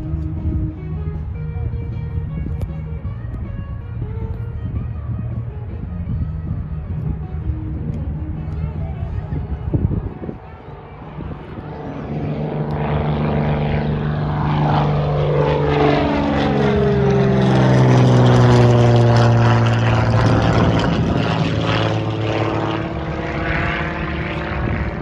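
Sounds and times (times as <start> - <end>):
propeller airplane passing: 0.0 - 25.0.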